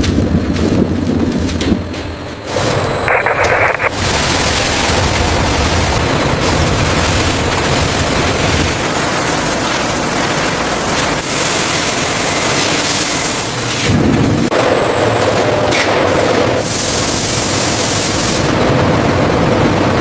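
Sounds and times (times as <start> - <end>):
loud rushing noise: 0.0 - 19.3.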